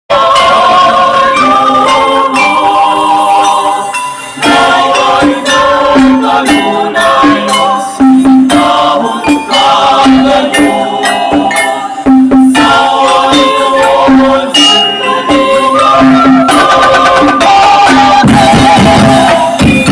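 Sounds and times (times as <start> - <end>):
held pitched notes: 0.2 - 19.9
rattling shaker percussion: 0.4 - 19.9.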